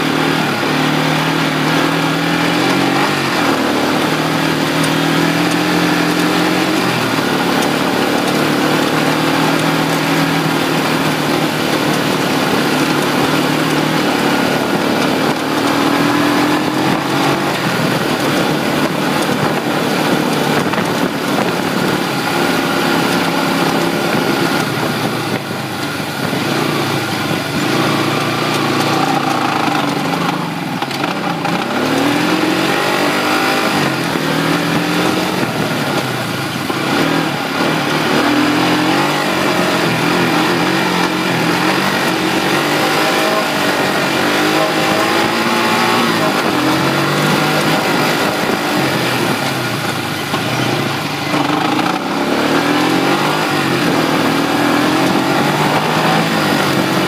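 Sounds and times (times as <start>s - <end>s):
quad engine revving under load: 0.0s - 57.0s.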